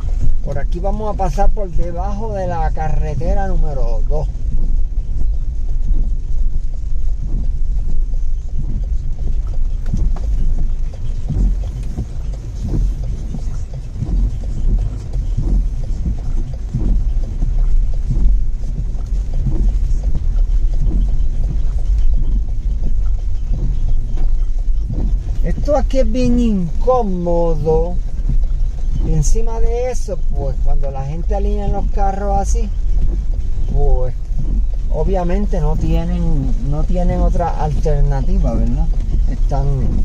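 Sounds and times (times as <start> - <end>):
knocks and bumps: 0.0 - 40.0
vehicle rumbling along a road: 0.0 - 40.0.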